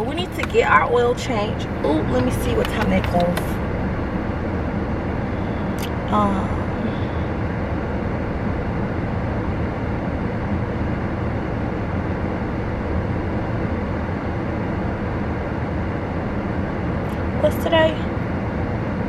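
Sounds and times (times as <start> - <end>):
car interior rumble and hiss: 0.0 - 19.0.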